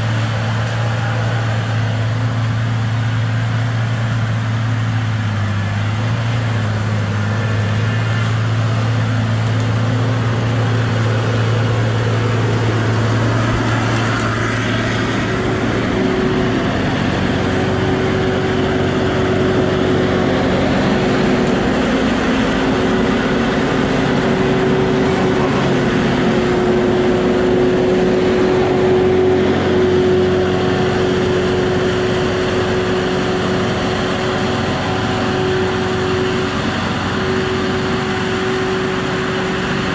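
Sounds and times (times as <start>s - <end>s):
diesel engine running: 0.0s - 39.9s
high steady whine: 0.0s - 39.9s
strong low hum: 0.0s - 39.9s.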